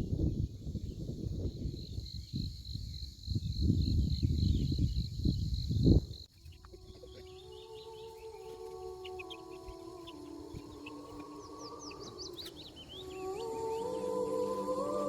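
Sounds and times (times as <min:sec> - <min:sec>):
crickets trilling: 0:00.0 - 0:15.0
wind gusting on microphone: 0:00.0 - 0:15.0.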